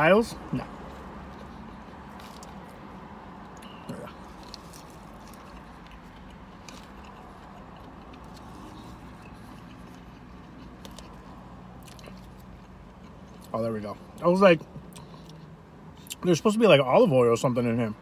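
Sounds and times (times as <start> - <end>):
low hum in car cabin: 0.0 - 18.0
man chewing food: 0.7 - 16.1.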